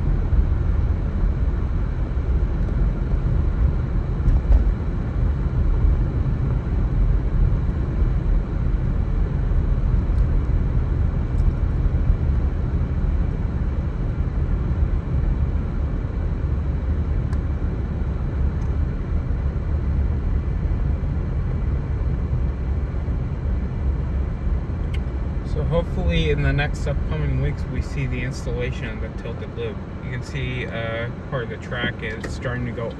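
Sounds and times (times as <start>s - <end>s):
low outdoor rumble: 0.0s - 32.9s.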